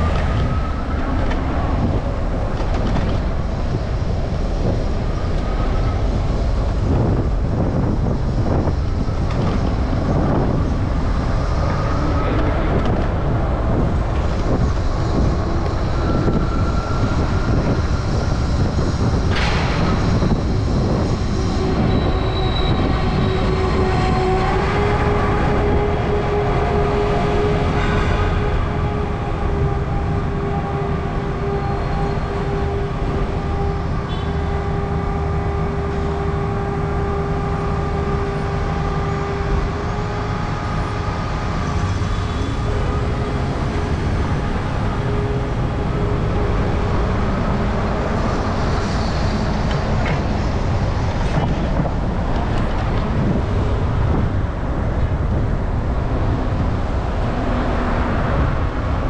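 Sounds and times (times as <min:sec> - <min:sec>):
steady humming tone: 0:00.0 - 0:57.3
vehicle rumble: 0:00.0 - 0:59.0.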